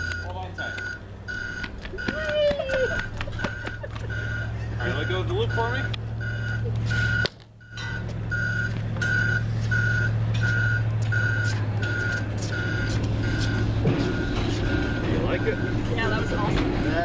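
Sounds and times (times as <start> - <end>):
electronic warning beeper: 0.0 - 2.2, 2.9 - 16.4.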